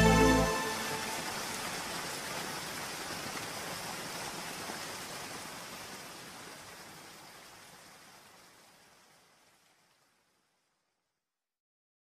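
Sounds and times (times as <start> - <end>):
steady rainfall hiss: 0.0 - 11.0.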